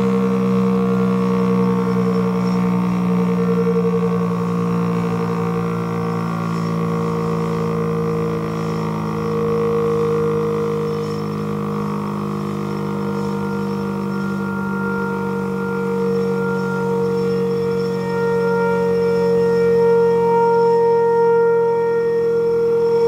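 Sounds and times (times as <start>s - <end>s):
distant warning sirens: 0.0s - 23.0s.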